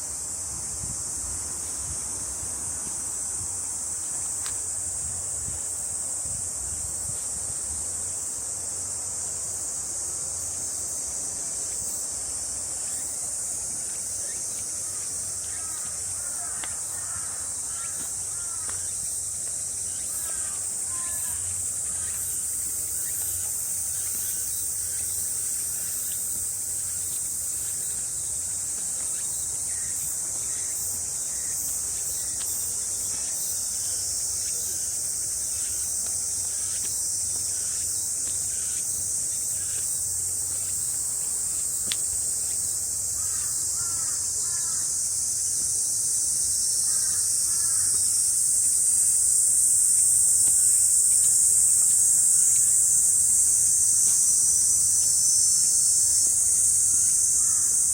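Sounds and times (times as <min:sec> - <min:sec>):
cicadas buzzing: 0:00.0 - 0:57.9.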